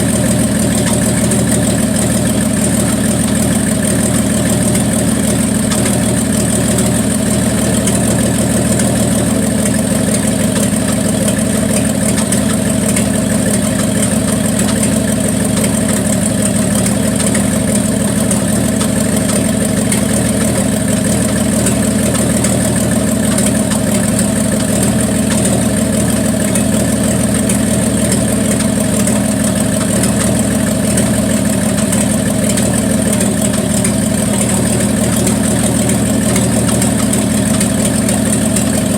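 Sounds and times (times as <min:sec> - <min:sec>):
car engine idling with a miss: 0:00.0 - 0:38.9.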